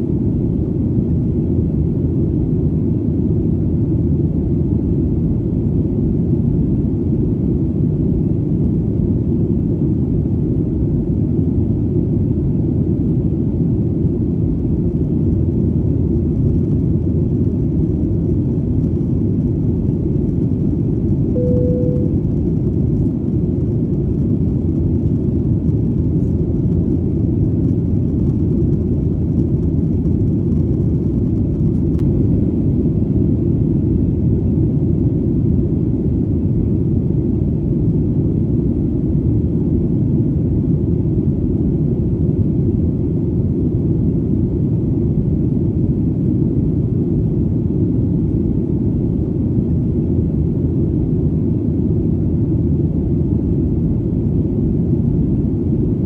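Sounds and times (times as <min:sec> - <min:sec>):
airplane engine rumble: 0:00.0 - 0:56.0.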